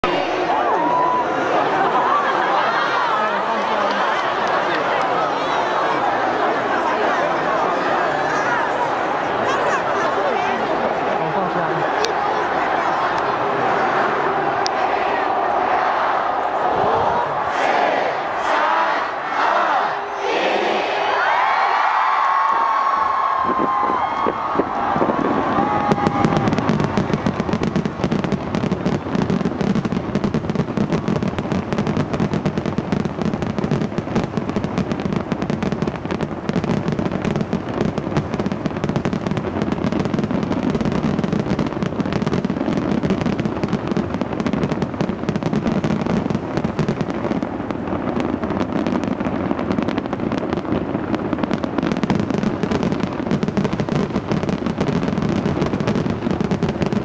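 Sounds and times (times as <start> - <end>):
fireworks bangs and crackles: 0.0 - 19.3, 20.8 - 57.0.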